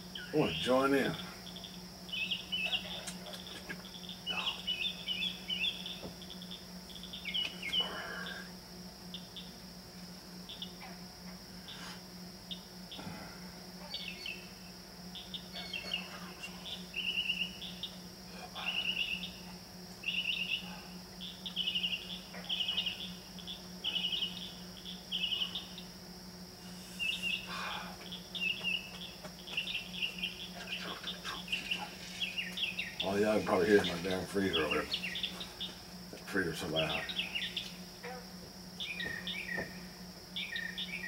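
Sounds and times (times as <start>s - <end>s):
mockingbird singing: 0.0s - 8.4s, 13.9s - 25.9s, 27.0s - 35.8s, 36.4s - 37.8s, 38.8s - 41.0s
insect chorus: 0.0s - 41.0s
low hum of a freezer: 0.0s - 41.0s.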